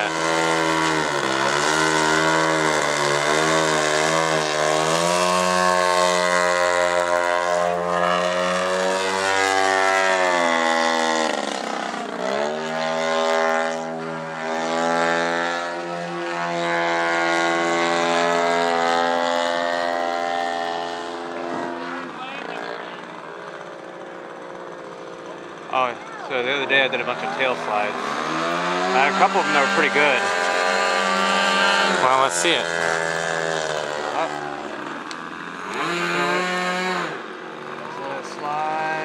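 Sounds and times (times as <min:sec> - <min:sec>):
model plane engine and propeller: 0:00.0 - 0:39.0.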